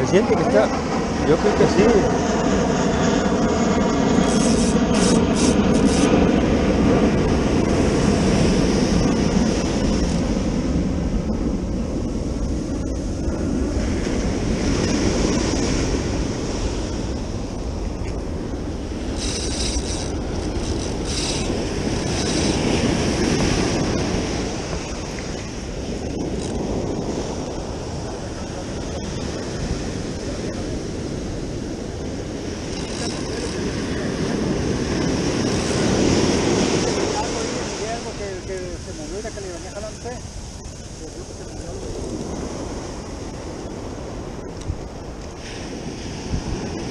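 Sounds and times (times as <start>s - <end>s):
ocean surf on beach: 0.0s - 46.9s
wind buffeting microphone: 0.0s - 46.9s.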